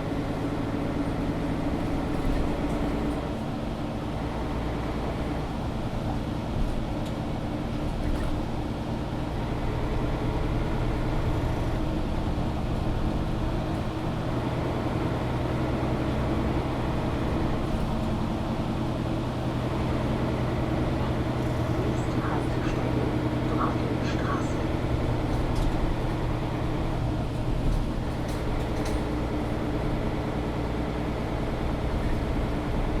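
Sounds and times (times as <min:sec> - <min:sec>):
bus engine humming: 0:00.0 - 0:33.0.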